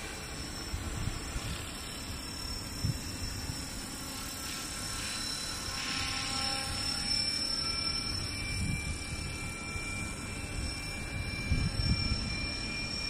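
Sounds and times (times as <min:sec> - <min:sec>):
rc helicopter motor whine: 0:00.0 - 0:13.0.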